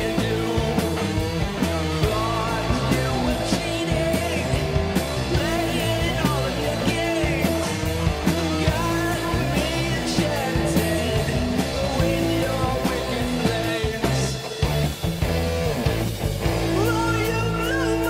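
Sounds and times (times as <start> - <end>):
rock song with singing: 0.0 - 18.0.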